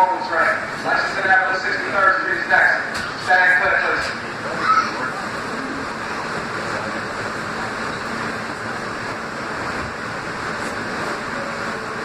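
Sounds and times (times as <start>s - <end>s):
subway train wheels on rail: 0.0s - 12.0s.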